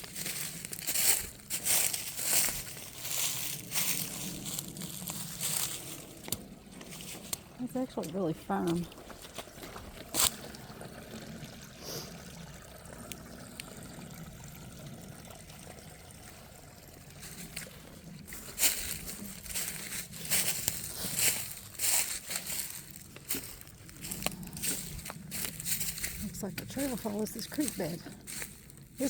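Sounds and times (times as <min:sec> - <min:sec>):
footsteps on creek bed: 0:00.0 - 0:10.7, 0:16.1 - 0:29.0
creek water trickling: 0:00.0 - 0:29.0.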